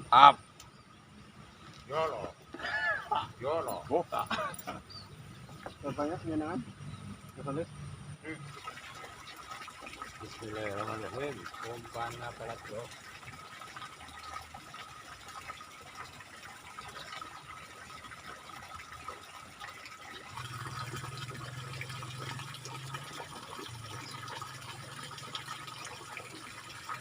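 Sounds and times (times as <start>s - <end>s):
low steady hum: 0.0s - 16.8s, 20.2s - 27.0s
water running in ditch: 0.0s - 27.0s.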